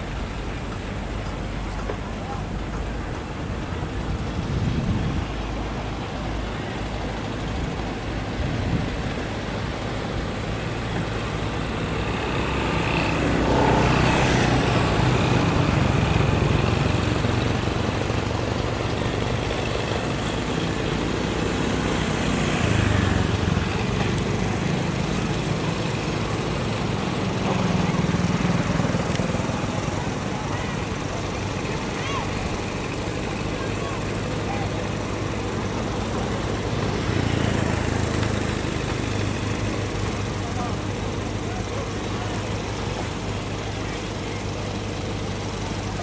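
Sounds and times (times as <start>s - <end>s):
motor engine droning: 0.0s - 46.0s.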